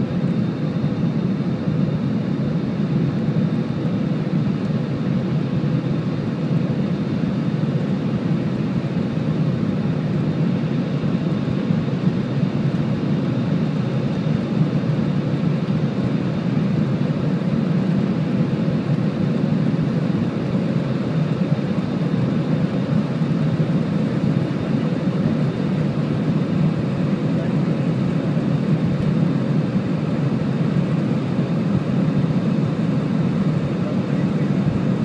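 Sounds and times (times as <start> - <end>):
jet cabin low rumble: 0.0 - 35.0.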